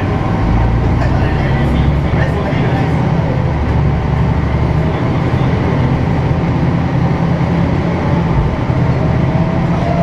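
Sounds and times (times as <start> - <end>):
bus diesel engine running: 0.0 - 10.0
road noise: 0.0 - 10.0.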